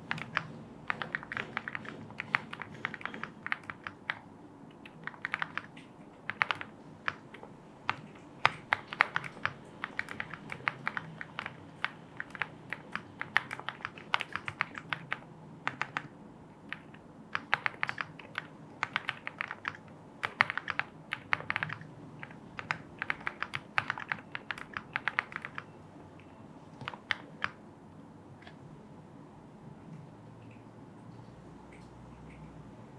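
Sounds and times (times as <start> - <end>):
mechanical keyboard typing: 0.0 - 27.6.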